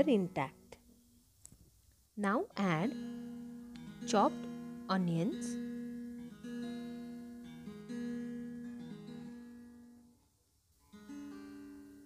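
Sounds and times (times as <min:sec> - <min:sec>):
acoustic guitar music: 0:00.0 - 0:01.2, 0:02.2 - 0:12.0.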